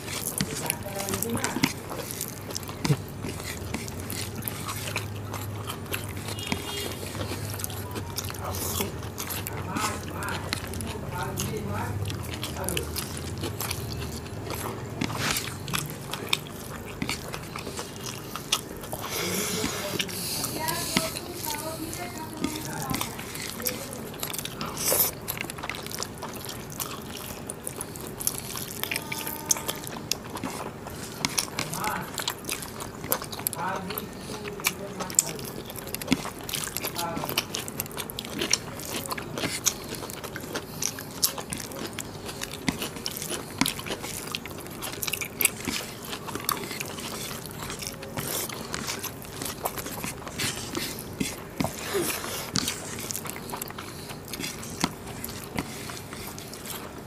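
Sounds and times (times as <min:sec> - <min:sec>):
chewing: 0:00.0 - 0:57.0
fingers squishing rice and curry: 0:00.0 - 0:57.0
low steady hum: 0:00.0 - 0:57.0
wet eating mouth sounds: 0:00.0 - 0:57.0.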